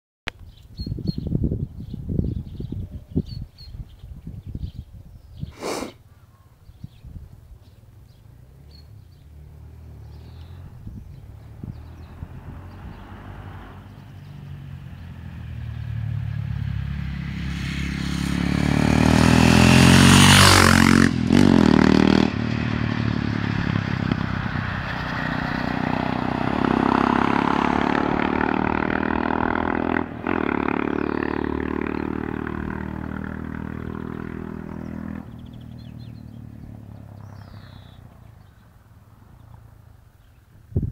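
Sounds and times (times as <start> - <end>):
motorcycle passing by: 7.6 - 40.5.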